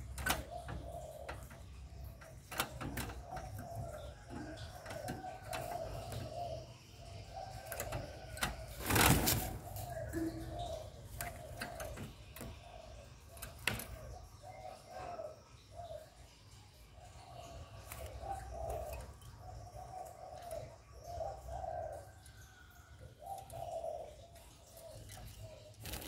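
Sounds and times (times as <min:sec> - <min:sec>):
dove cooing: 0:00.0 - 0:16.3, 0:17.0 - 0:26.0.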